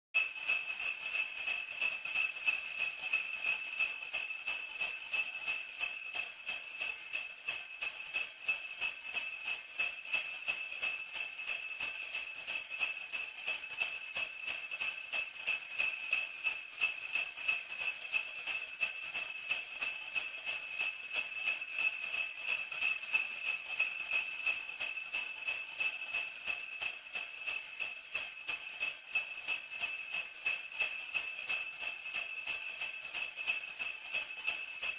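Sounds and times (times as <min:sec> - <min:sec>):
sleigh bells jingling: 0:00.2 - 0:34.9.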